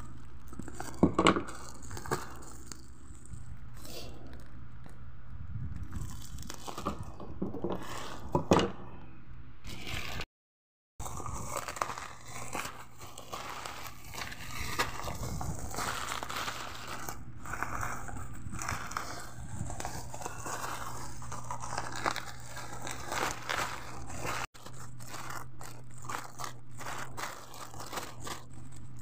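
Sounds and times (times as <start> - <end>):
plastic packaging crinkling: 0.0 - 8.4, 9.7 - 10.3, 11.0 - 29.0.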